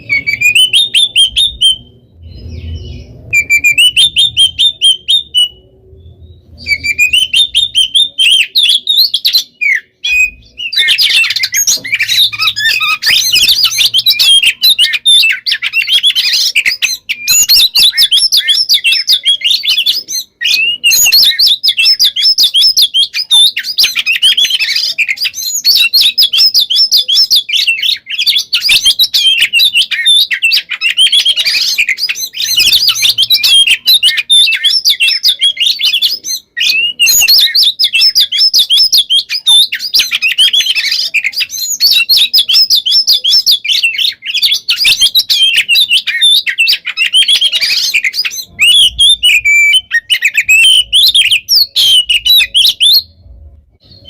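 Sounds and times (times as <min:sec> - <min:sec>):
bird singing whistled trills: 0:00.0 - 0:54.0.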